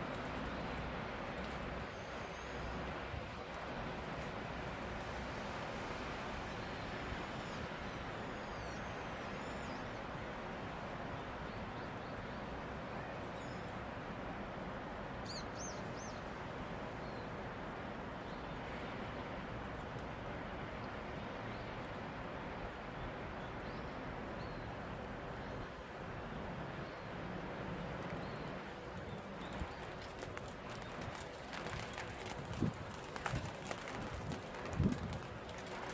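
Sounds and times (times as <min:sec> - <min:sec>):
steady rain falling: 0:00.0 - 0:23.5, 0:24.7 - 0:35.9.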